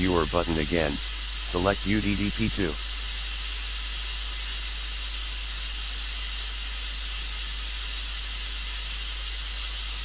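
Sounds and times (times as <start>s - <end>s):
steady low hum: 0.0s - 10.0s
white noise hiss from loudspeaker: 0.0s - 10.0s.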